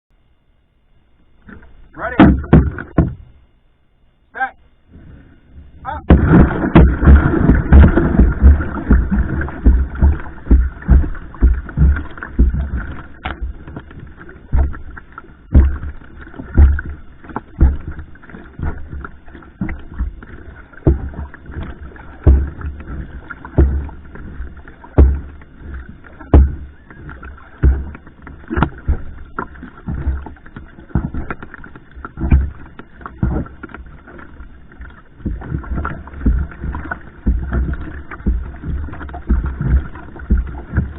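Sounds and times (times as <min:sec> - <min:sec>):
paddle strokes in water: 0:04.8 - 0:40.9
rushing water: 0:06.0 - 0:40.9.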